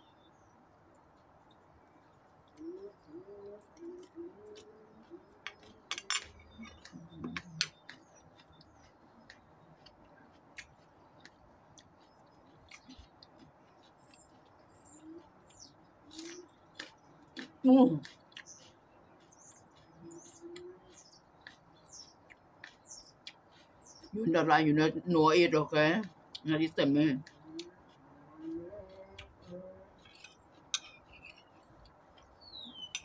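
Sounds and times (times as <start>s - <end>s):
faint birds chirping: 0.0s - 33.0s
wet chewing and mouth noises: 0.4s - 24.2s, 25.4s - 33.0s.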